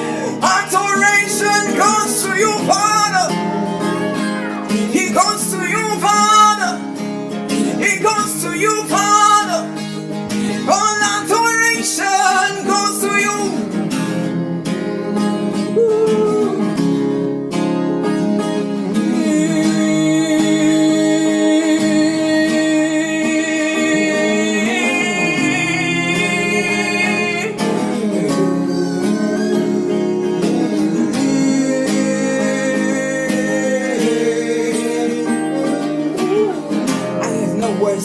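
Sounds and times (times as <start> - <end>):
guitar strums: 0.0 - 38.0
slow worship music: 0.0 - 38.0
wordless voice singing: 0.0 - 38.0.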